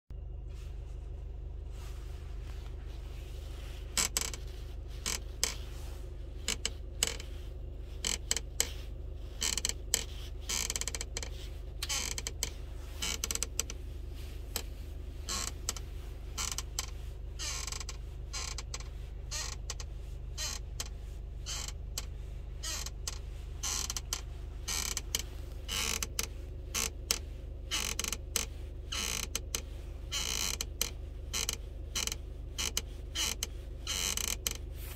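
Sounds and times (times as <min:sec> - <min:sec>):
low cabin hum: 0:00.1 - 0:34.9
seat belt buckle creaking and clicking: 0:03.9 - 0:05.7, 0:06.4 - 0:13.8, 0:14.6 - 0:15.8, 0:16.4 - 0:34.7.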